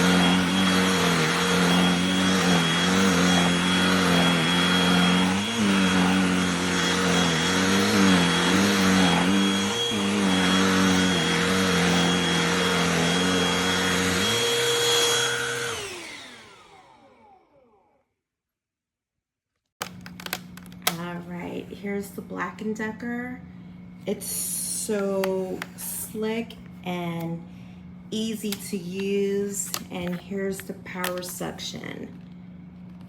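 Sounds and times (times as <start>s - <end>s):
cordless vacuum running: 0.0s - 18.0s, 19.8s - 23.0s, 23.8s - 33.0s.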